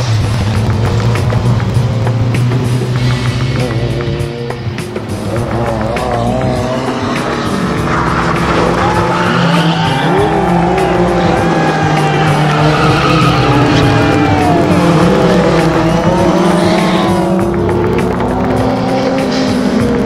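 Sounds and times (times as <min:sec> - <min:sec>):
background music: 0:00.0 - 0:20.0
racing car engines revving: 0:00.0 - 0:20.0.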